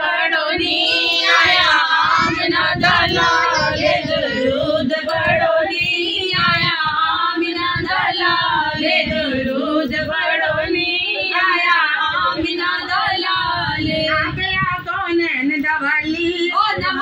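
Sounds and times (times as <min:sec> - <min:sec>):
women singing devotional song: 0:00.0 - 0:17.0.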